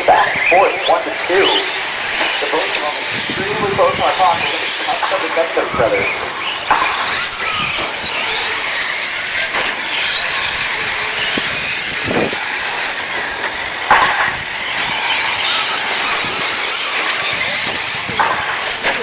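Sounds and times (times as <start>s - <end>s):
toy truck motors whining: 0.0s - 19.0s.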